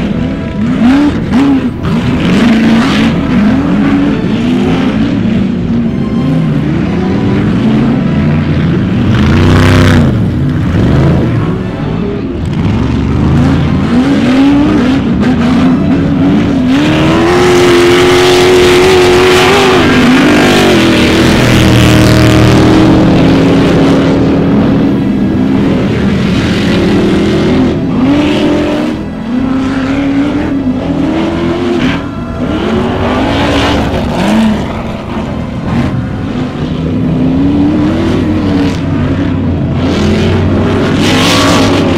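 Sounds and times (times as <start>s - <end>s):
race car engines revving: 0.0s - 41.9s.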